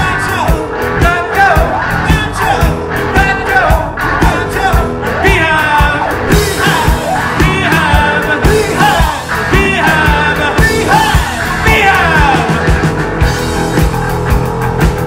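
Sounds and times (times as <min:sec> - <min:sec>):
sung or shouted vocals: 0:00.0 - 0:13.0
live rock band playing: 0:00.0 - 0:15.0.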